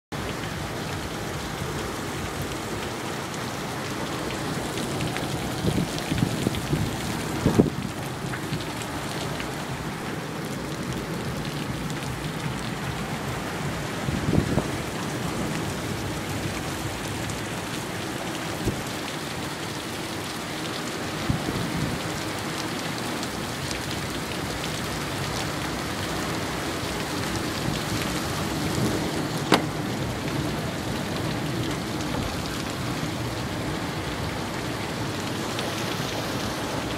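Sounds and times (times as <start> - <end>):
heavy rain pouring: 0.1 - 36.9
raindrops clicking nearby: 0.2 - 36.9.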